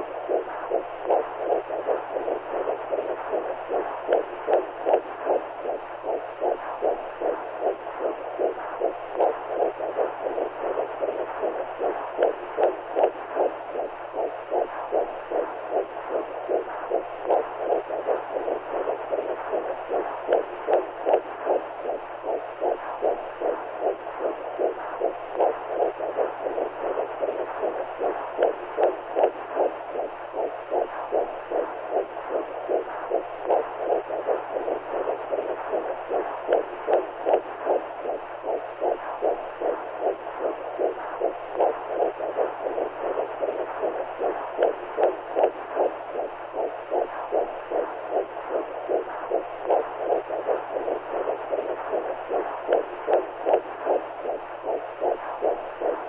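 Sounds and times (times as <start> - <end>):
faint low hum: 0.0 - 56.0
heartbeat-like whooshing pulse: 0.0 - 56.0.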